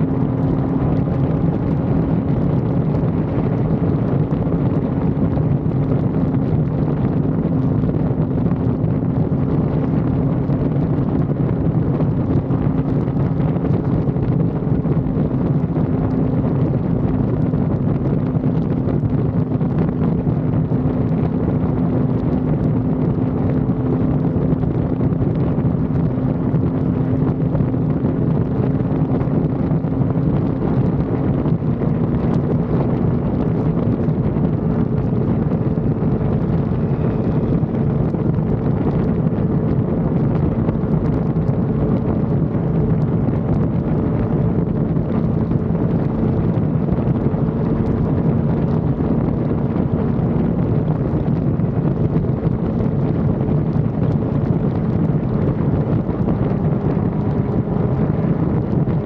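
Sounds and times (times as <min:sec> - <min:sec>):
motorcycle engine cruising: 0:00.0 - 0:59.0
wind rushing over microphone: 0:00.0 - 0:59.0.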